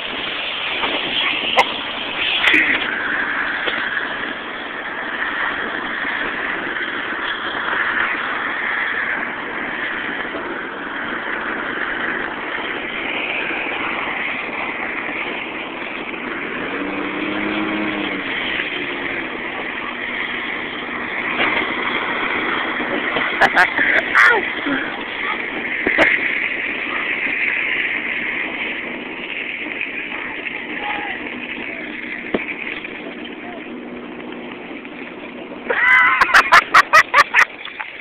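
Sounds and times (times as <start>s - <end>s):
vehicle driving on gravel road: 0.0s - 38.0s.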